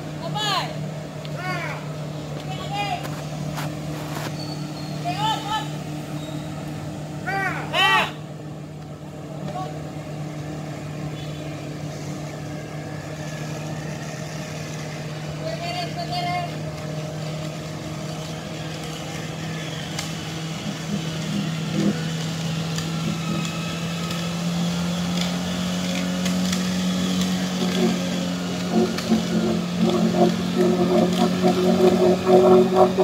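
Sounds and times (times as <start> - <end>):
engine running under load: 0.0 - 33.0
vehicle wading through water: 0.0 - 33.0.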